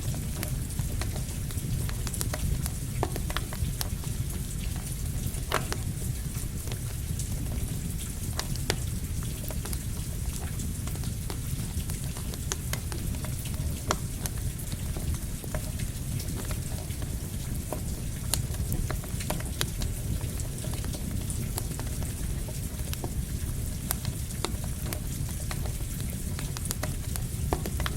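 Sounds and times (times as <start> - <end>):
campfire crackling and popping: 0.0 - 27.9
steady rain: 0.0 - 27.9.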